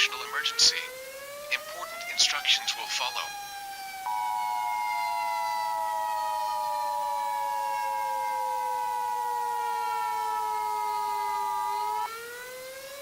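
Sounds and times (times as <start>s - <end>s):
falling siren-like tone: 0.0s - 13.0s.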